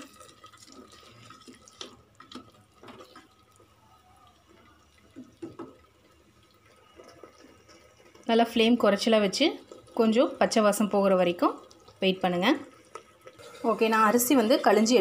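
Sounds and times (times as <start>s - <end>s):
spatula stirring thick sauce: 0.0s - 15.0s.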